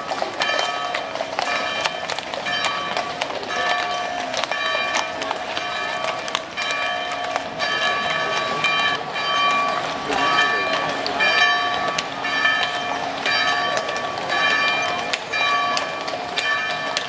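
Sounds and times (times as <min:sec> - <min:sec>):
hooves clopping on brick: 0:00.0 - 0:17.0.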